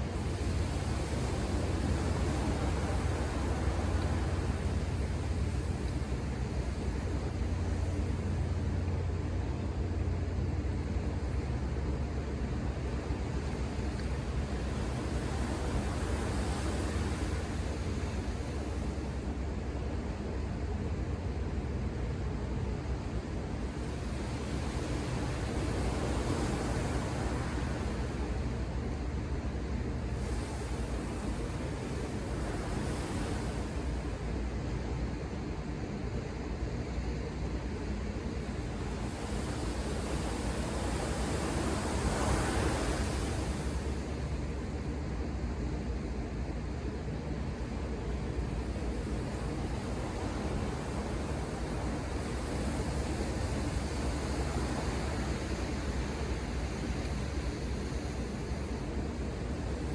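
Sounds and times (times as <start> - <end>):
ocean surf: 0.0 - 35.1, 38.2 - 45.6, 46.5 - 59.9.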